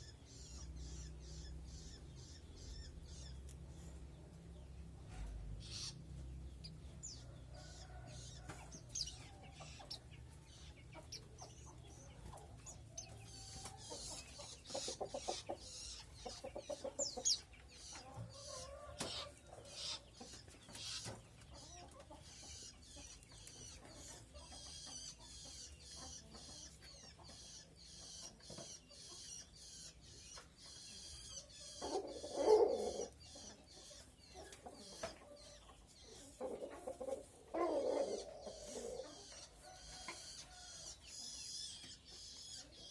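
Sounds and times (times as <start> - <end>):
birds chirping and twittering: 0.0 - 42.9
bird clucking: 4.5 - 42.9.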